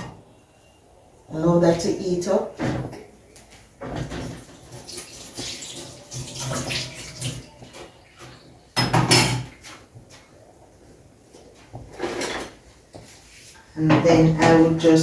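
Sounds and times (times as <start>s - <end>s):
kitchen rustling and clatter: 1.6s - 15.0s.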